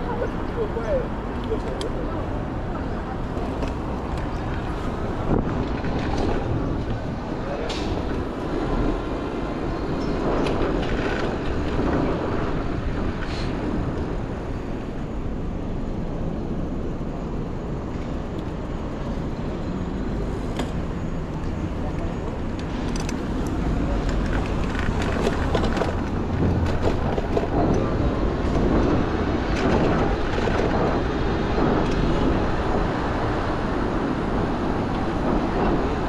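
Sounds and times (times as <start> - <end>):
rumble of street traffic: 0.0 - 36.0.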